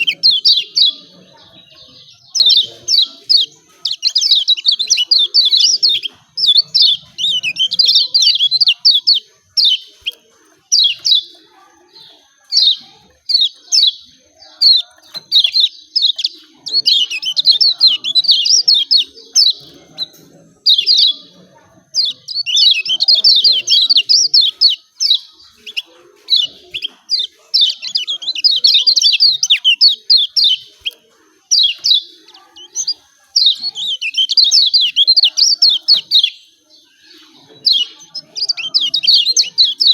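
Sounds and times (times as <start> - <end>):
bird giving sharp chirps: 0.0 - 11.5, 12.4 - 39.9.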